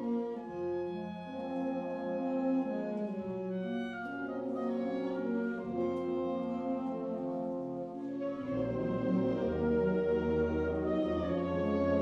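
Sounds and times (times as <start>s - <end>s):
low brass notes: 0.0s - 12.0s
wind band playing chords: 0.0s - 12.0s.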